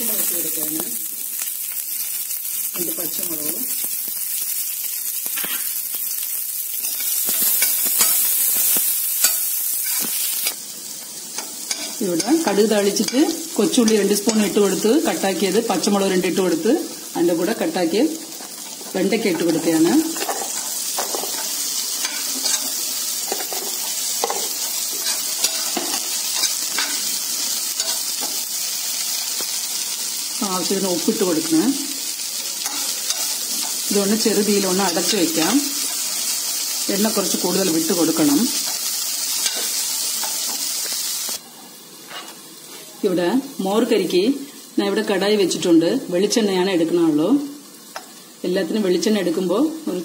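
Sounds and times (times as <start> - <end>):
food sizzling in hot oil: 0.0 - 50.0.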